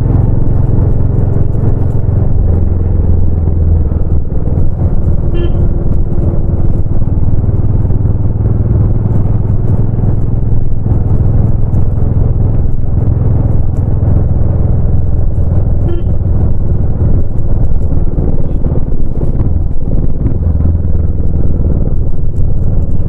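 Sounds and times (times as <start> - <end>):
motorcycle exhaust while riding: 0.0 - 23.0.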